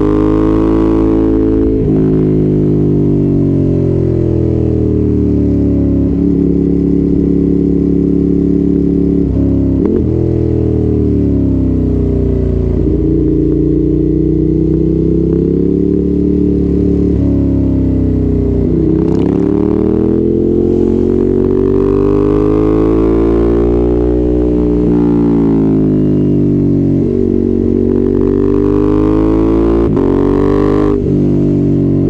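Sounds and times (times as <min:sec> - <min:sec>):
motorcycle engine exhaust note: 0:00.0 - 0:32.0.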